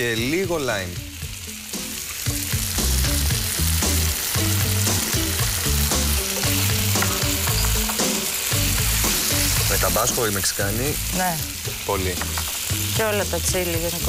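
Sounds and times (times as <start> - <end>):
background music with bass line: 0.0 - 14.0
sauce sizzling in a frying pan: 0.0 - 14.0.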